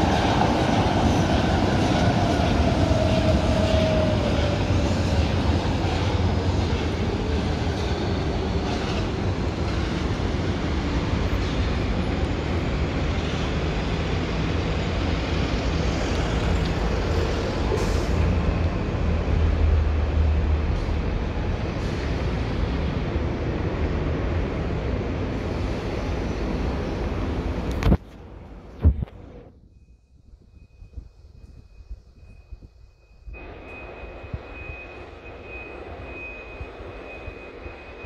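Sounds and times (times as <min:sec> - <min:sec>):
electric train rumbling past: 0:00.0 - 0:38.0.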